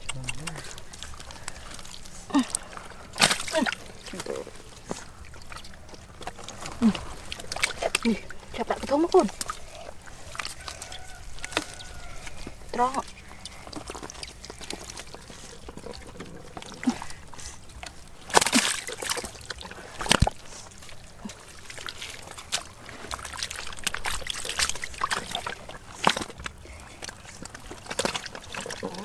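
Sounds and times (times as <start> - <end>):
hands sloshing in muddy water: 0.0 - 29.0
wet splashes: 0.0 - 29.0.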